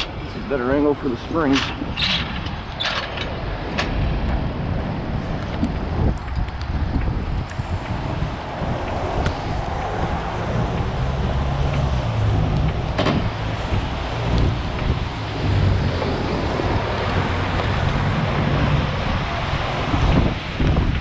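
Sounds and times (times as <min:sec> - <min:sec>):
vehicle traffic rushing: 0:00.0 - 0:21.0
wind buffeting microphone: 0:00.0 - 0:21.0.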